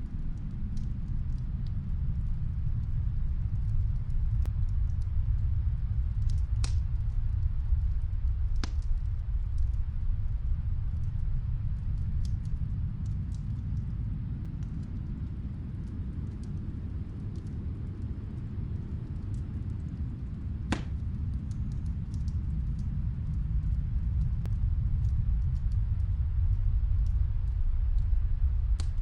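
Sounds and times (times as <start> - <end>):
fire popping: 0.1 - 29.0
wood fire crackling: 0.1 - 29.0.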